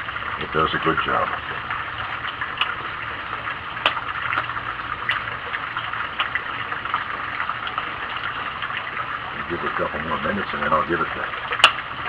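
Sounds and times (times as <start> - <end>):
wood fire hissing and crackling: 0.0 - 12.0.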